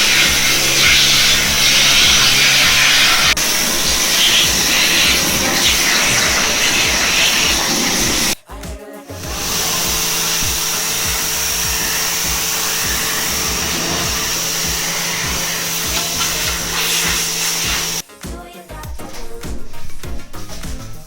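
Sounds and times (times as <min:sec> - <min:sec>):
electric motor machine humming: 0:00.0 - 0:08.4, 0:09.2 - 0:18.0
rushing air noise: 0:00.0 - 0:08.4, 0:09.2 - 0:18.0.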